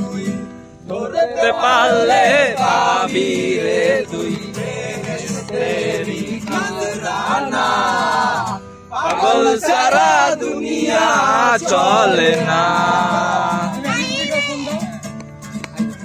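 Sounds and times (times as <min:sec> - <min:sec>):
music: 0:00.0 - 0:01.0, 0:01.8 - 0:09.0, 0:10.0 - 0:16.0
man singing: 0:00.0 - 0:14.2.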